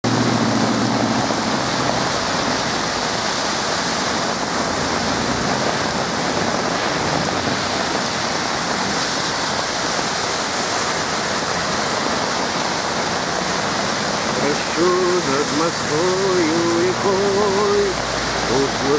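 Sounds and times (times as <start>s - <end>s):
heavy rain splashing on hard surfaces: 0.0s - 18.9s.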